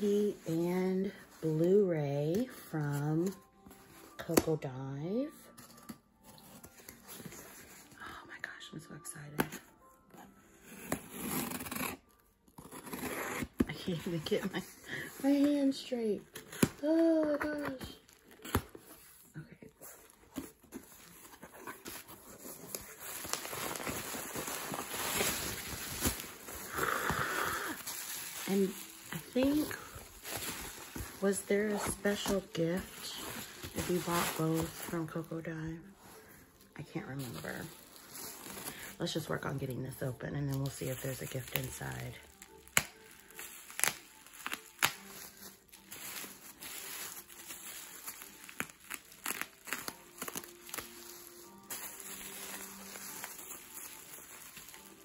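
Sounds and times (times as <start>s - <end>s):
bubble wrap crinkling: 5.2s - 8.0s, 9.9s - 55.0s.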